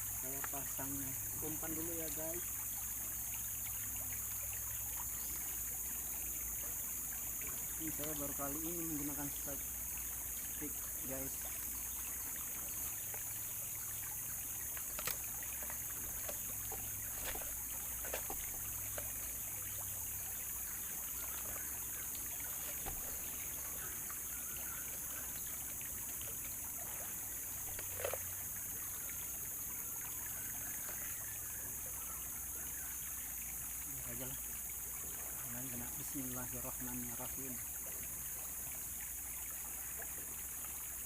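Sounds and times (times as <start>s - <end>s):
steady high hiss: 0.0s - 37.6s
river water flowing: 0.0s - 41.0s.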